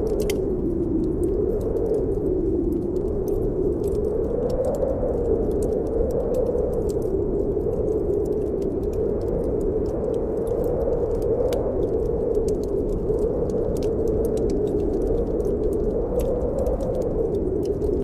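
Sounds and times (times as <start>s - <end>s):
snowstorm wind blowing: 0.0s - 18.0s
wood fire crackling: 0.0s - 18.0s.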